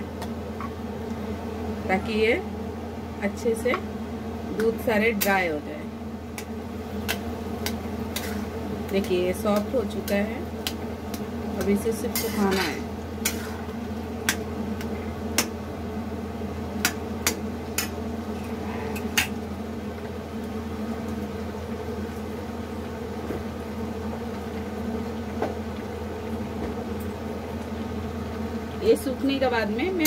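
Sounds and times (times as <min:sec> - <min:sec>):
mixture cooking in a pan: 0:00.0 - 0:30.0
steady low hum: 0:00.0 - 0:30.0.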